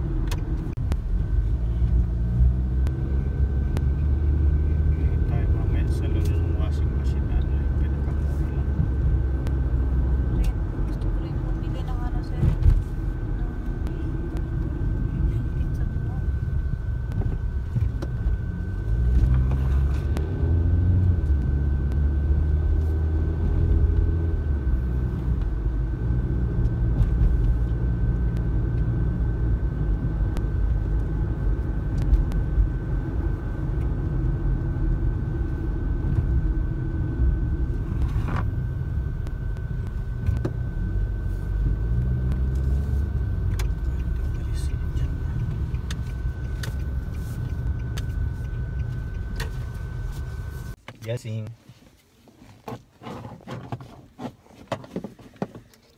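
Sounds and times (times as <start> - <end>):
car engine and road noise: 0.0 - 55.9
faint high whine: 0.8 - 50.8.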